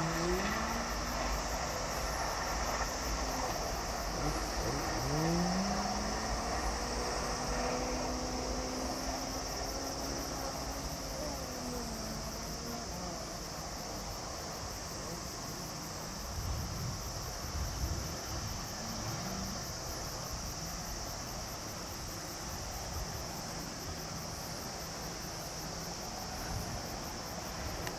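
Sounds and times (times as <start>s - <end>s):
insects droning: 0.0s - 27.9s
pulsing insect chirp: 0.0s - 27.9s.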